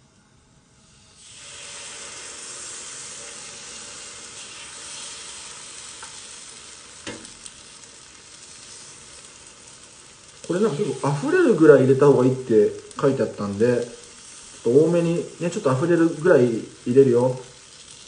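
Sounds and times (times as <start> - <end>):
batter sizzling in hot oil: 0.4 - 18.0.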